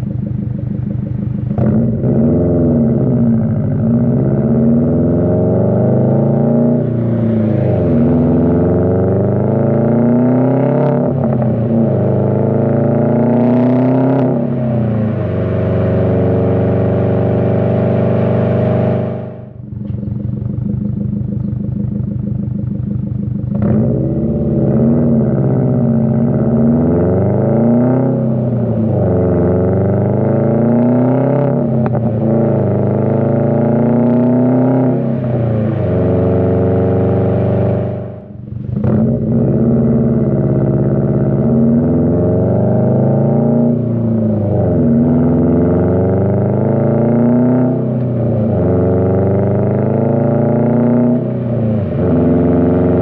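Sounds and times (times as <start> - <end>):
car engine accelerating through gears: 1.1 - 20.2, 23.5 - 53.0.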